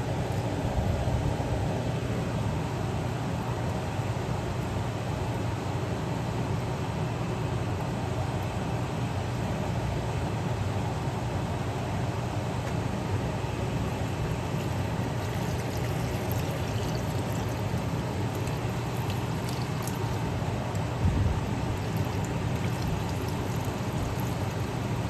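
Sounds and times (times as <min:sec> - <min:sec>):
range hood fan humming: 0:00.0 - 0:25.0.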